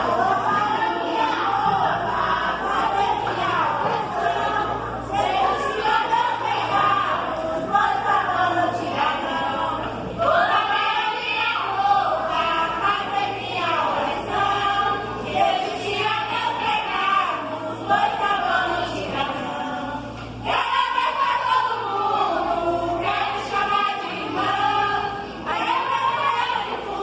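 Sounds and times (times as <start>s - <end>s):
group of voices singing: 0.0s - 27.0s.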